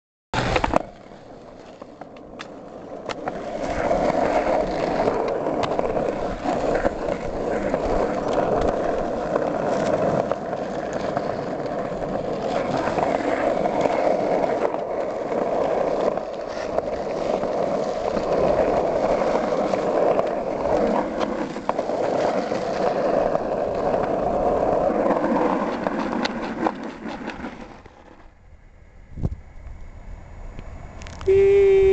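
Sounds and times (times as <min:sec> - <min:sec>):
skateboard clicks and knocks: 0:00.4 - 0:28.4
skateboard wheels rolling on concrete: 0:00.4 - 0:31.9.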